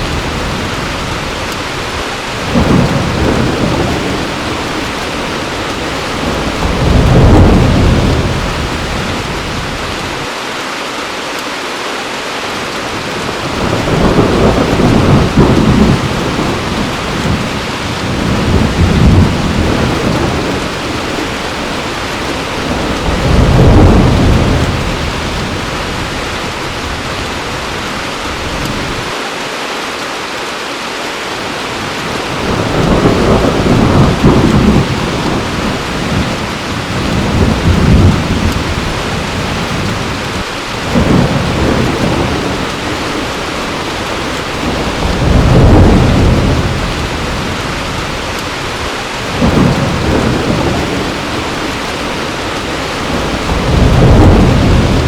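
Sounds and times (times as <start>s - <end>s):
thunder rumbling: 0.0s - 10.3s, 12.8s - 29.2s, 31.7s - 55.0s
heavy rain falling: 0.0s - 55.0s.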